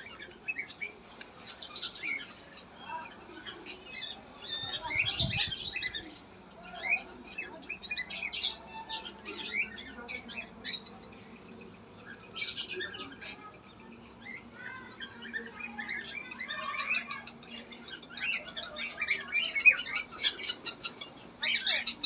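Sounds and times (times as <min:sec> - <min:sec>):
caged birds chirping and squawking: 0:00.0 - 0:22.0.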